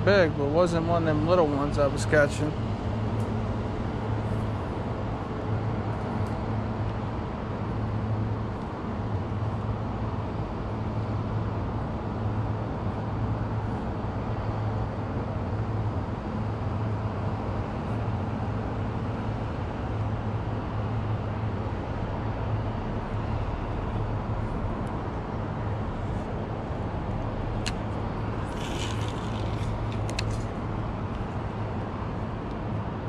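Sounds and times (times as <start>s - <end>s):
city road traffic rumble: 0.0s - 33.0s
constant low hum: 0.0s - 33.0s.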